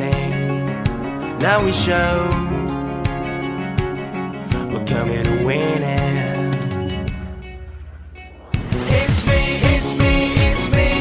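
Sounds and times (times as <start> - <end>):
pop music with guitar and drums: 0.0 - 7.7, 8.6 - 11.0.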